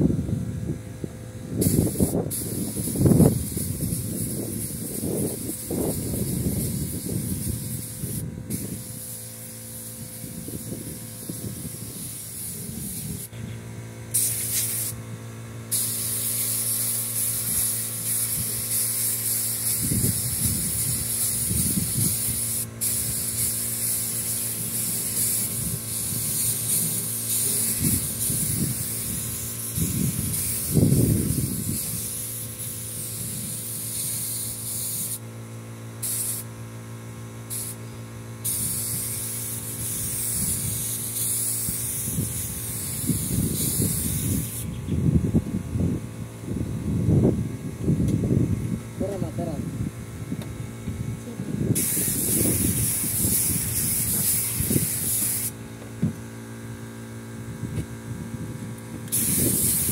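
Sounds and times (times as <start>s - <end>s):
steady low hum: 0.0s - 59.9s
pneumatic spray gun hissing: 1.5s - 45.9s, 50.2s - 59.9s.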